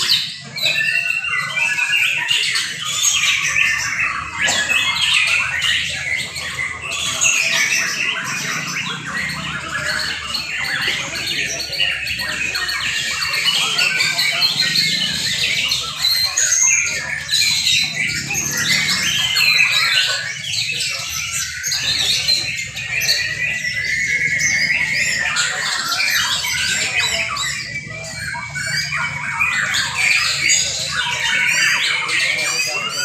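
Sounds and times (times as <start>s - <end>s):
birds singing whistles and trills: 0.0s - 33.0s
harsh bird chattering calls: 0.0s - 33.0s.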